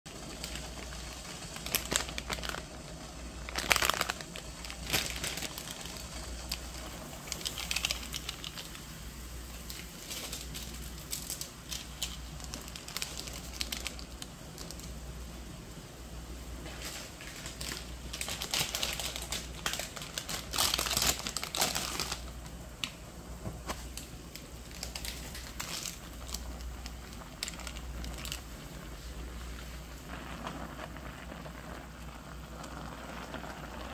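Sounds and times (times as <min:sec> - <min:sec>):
water boiling in a pot: 0:00.1 - 0:33.9
plastic packaging crinkling and tearing: 0:00.2 - 0:08.9, 0:09.5 - 0:15.0, 0:16.6 - 0:23.0, 0:23.6 - 0:31.1.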